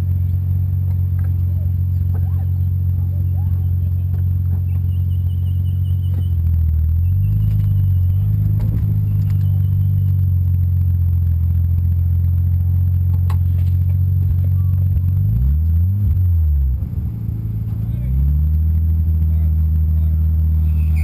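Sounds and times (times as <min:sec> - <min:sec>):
faint high whine: 0:00.0 - 0:15.6, 0:16.5 - 0:21.0
car engine running: 0:00.0 - 0:21.0.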